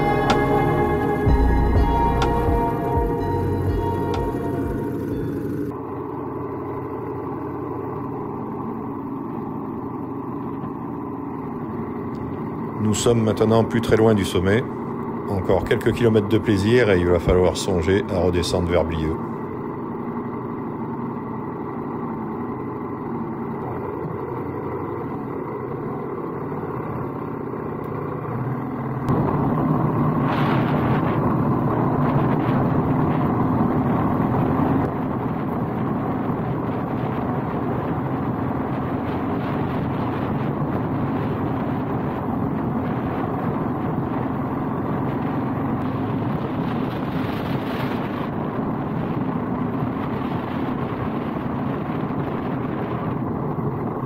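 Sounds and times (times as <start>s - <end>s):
motorcycle engine: 0.0s - 13.7s, 19.2s - 54.0s.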